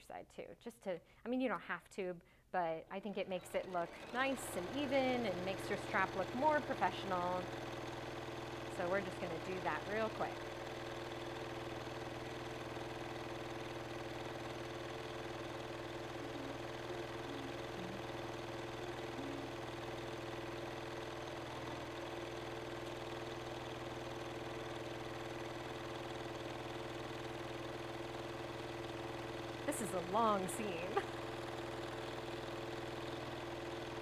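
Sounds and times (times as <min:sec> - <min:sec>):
sewing machine running: 0:03.1 - 0:34.0.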